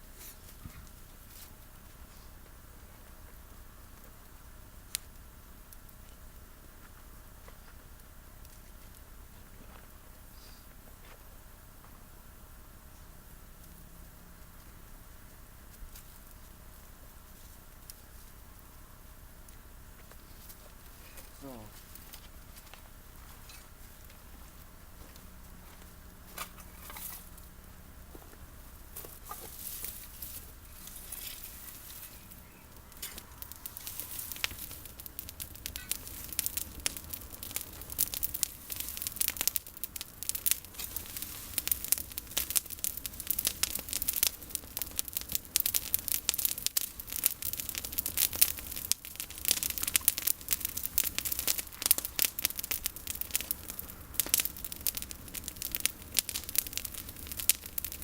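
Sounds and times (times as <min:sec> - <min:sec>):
campfire crackling and popping: 0:00.1 - 0:58.0.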